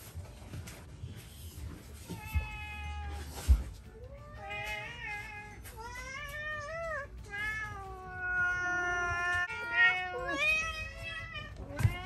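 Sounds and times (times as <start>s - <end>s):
cats meowing: 1.9s - 12.0s.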